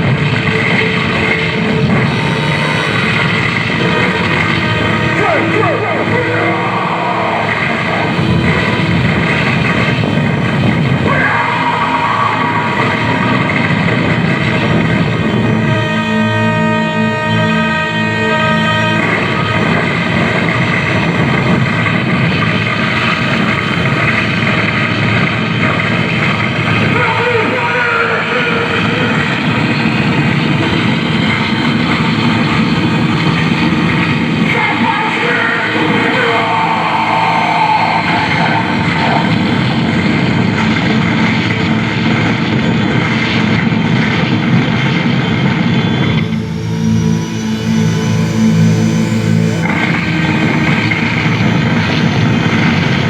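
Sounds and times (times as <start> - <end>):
distorted electronic noise: 0.0 - 53.0
low steady drone: 0.0 - 53.0.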